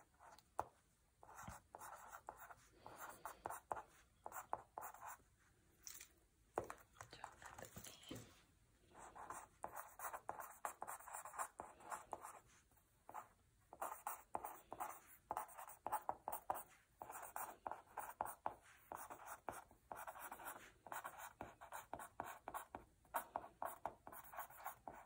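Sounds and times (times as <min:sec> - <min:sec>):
pen scratching on paper: 0:00.0 - 0:05.2, 0:09.0 - 0:25.0.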